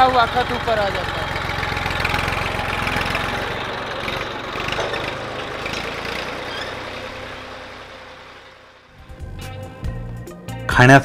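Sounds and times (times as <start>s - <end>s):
tractor engine running: 0.0s - 10.9s.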